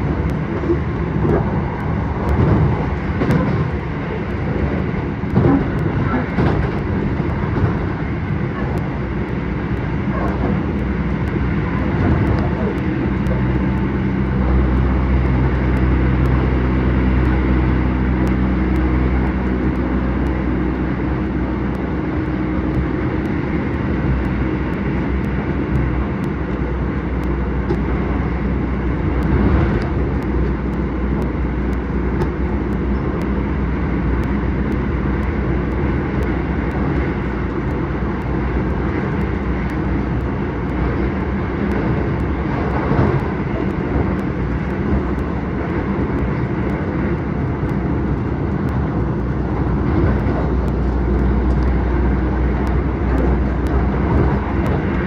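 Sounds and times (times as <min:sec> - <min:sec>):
hum of low tones: 0:00.0 - 0:55.0
train wheels rumbling on rail: 0:00.0 - 0:55.0.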